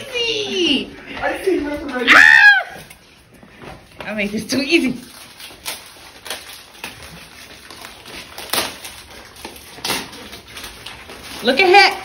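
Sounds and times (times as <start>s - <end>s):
gift packaging rustling and crinkling: 0.0s - 12.0s.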